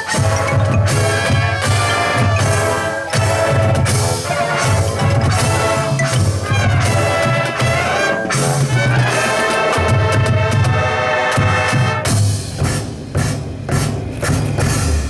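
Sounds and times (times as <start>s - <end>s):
brass chords: 0.0s - 15.0s.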